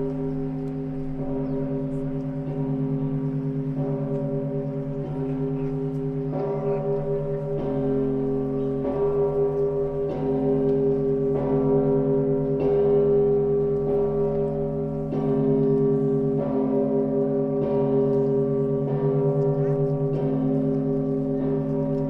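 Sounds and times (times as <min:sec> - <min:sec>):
deep church bell ringing: 0:00.0 - 0:22.0.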